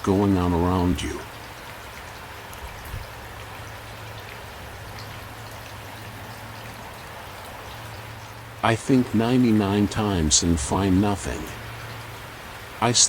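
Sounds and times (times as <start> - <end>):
raindrops pattering on a surface: 0.0 - 13.0
steady rain hissing: 0.0 - 13.0.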